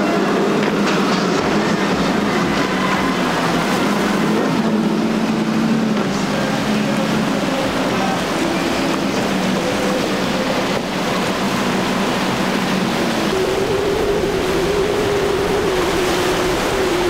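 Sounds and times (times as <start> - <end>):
outboard motors droning: 0.0 - 17.0
rushing wake and sea: 0.0 - 17.0.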